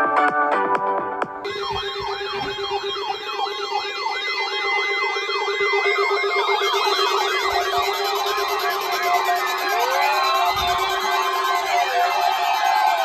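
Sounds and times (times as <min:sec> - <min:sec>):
weather alert radio alarms: 0:01.4 - 0:13.0.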